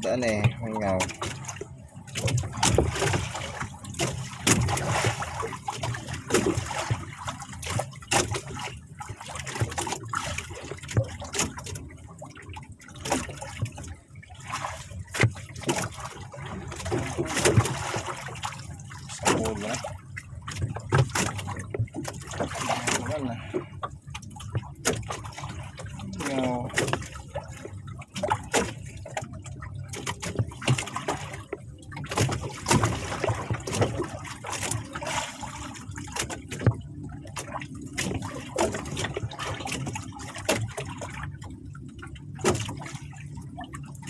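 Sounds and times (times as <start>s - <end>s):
water sloshing against boat hull: 0.0s - 44.0s.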